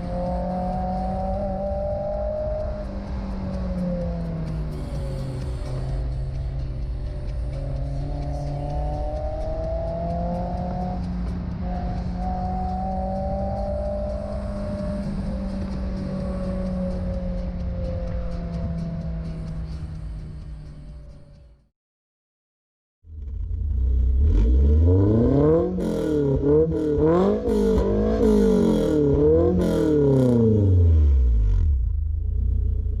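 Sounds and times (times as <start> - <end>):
car engine accelerating: 0.0 - 21.6, 23.1 - 33.0.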